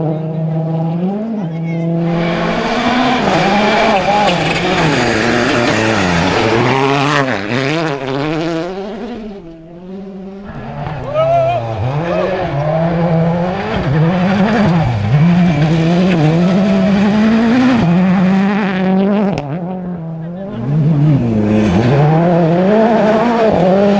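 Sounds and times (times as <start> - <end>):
rally car engines revving: 0.0 - 23.9.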